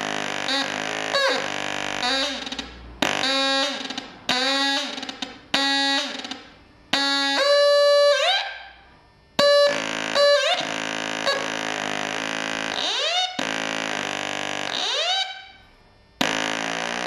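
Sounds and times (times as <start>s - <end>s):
buzzy electronic tones: 0.0s - 17.0s.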